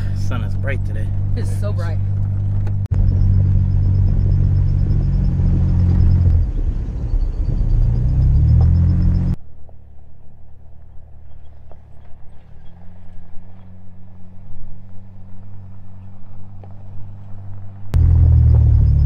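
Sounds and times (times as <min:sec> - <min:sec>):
car engine running: 0:00.0 - 0:09.4, 0:10.5 - 0:19.0
rumble of driving on dirt trail: 0:00.0 - 0:19.0.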